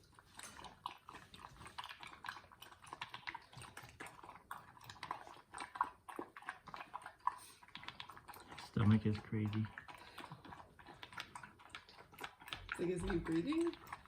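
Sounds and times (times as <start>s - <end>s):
puppy crunching food: 0.0s - 14.0s.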